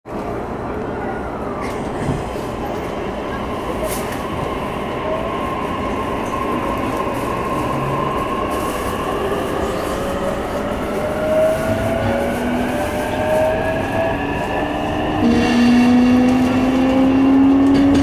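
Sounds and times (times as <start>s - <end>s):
wheels rumbling on rails: 0.1s - 18.0s.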